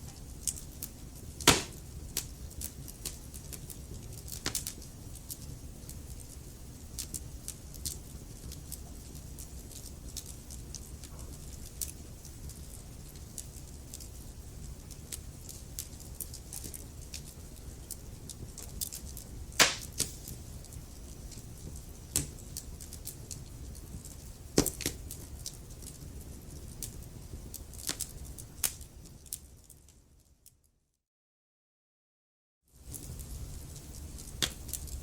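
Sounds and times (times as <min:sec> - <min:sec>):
wood fire crackling and rumbling: 0:00.0 - 0:30.6, 0:32.8 - 0:35.0.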